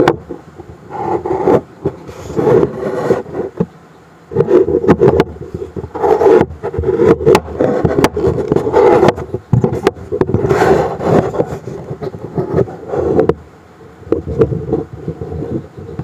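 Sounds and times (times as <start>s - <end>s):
wood scraping on wood: 0.0s - 13.4s.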